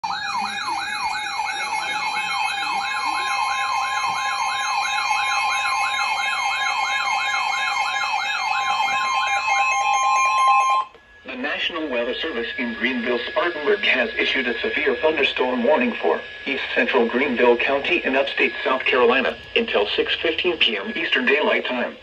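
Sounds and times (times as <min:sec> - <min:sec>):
electronic siren sweeping: 0:00.0 - 0:19.4
steady electronic tones: 0:00.0 - 0:22.0.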